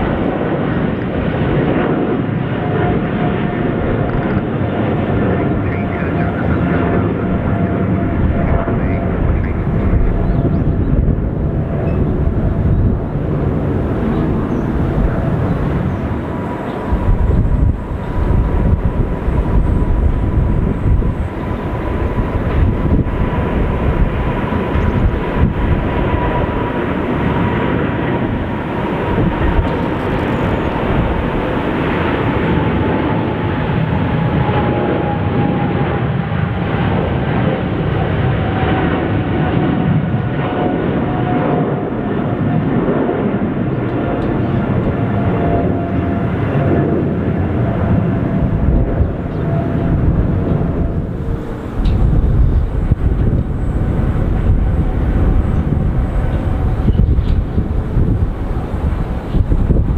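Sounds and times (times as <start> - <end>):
jet engines roaring with high whine: 0.0 - 59.9.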